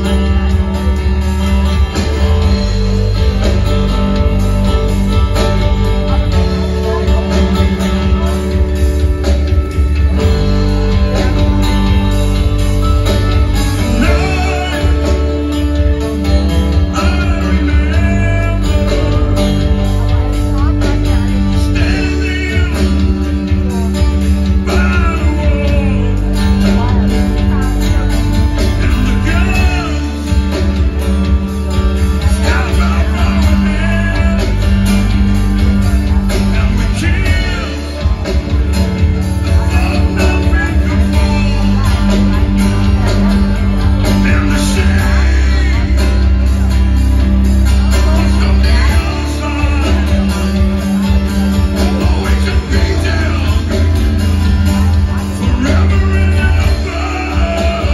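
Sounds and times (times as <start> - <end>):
live rock band playing: 0.0 - 57.9
person singing: 0.0 - 57.9.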